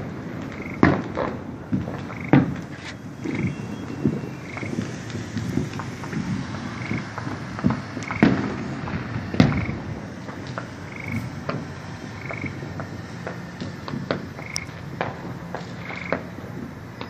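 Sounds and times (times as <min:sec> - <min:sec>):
distant fireworks popping: 0:00.0 - 0:17.0
fireworks booms: 0:00.0 - 0:17.0.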